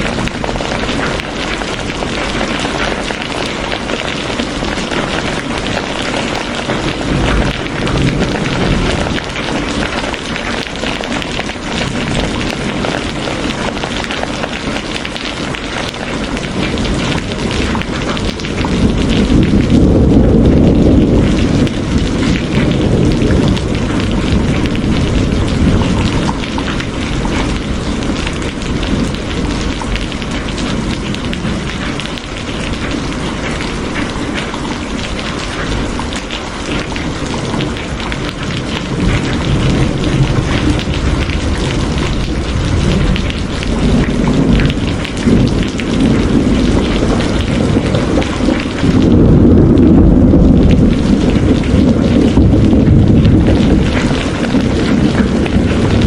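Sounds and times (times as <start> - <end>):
heavy rain: 0.0 - 56.0
thunder rumbling: 0.0 - 56.0.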